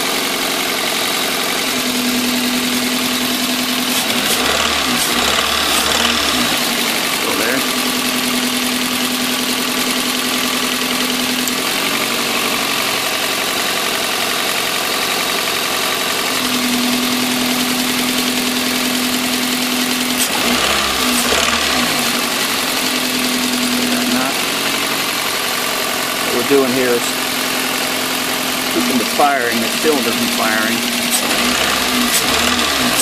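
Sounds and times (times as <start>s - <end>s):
knocking engine idling: 0.0s - 33.0s.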